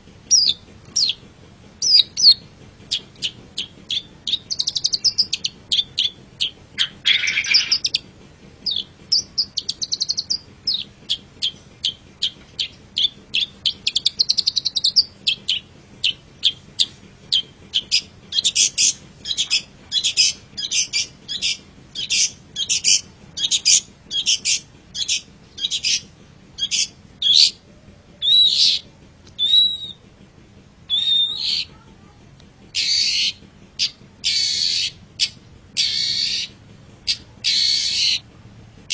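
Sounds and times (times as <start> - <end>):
bird singing sharp chirps and trills: 0.3 - 1.2, 1.8 - 8.0, 8.6 - 27.6, 28.2 - 28.8, 29.4 - 30.0, 30.9 - 31.7, 32.7 - 38.2.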